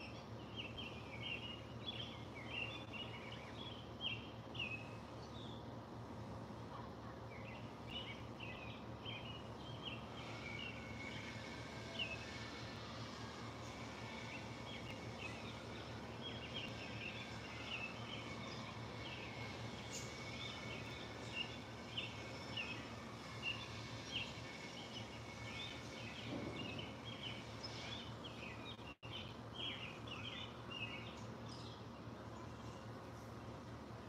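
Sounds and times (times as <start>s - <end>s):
small birds chirping: 0.0s - 5.8s, 6.8s - 33.9s
steady low hum: 0.0s - 34.0s.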